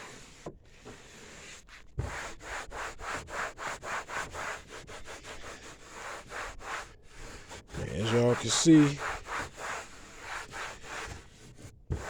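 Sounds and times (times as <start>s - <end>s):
rubbing on plastic: 0.0s - 12.0s.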